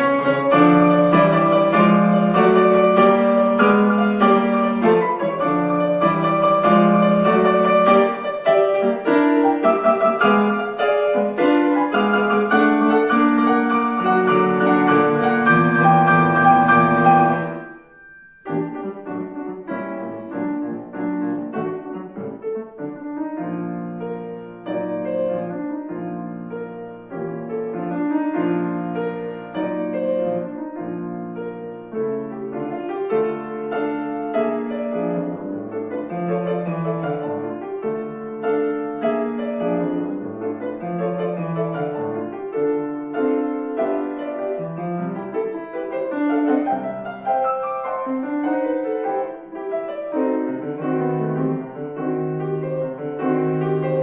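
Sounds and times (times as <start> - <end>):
classical piano piece: 0.0 - 54.0.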